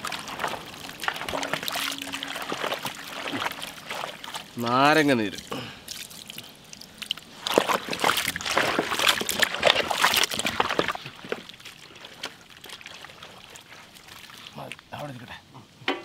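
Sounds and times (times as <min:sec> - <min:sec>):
wet squelching of meat by hand: 0:00.0 - 0:04.6, 0:05.2 - 0:14.9.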